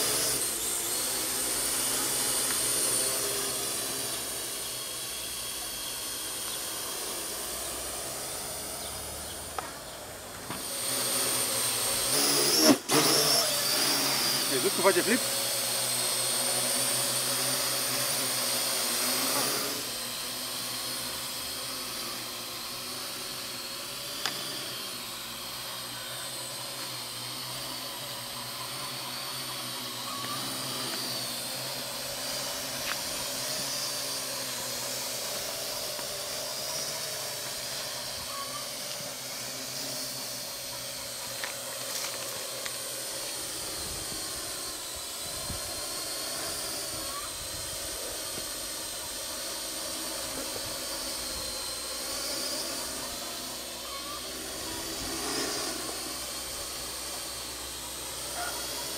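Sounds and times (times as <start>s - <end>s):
quadcopter propellers whining: 0.0s - 58.9s.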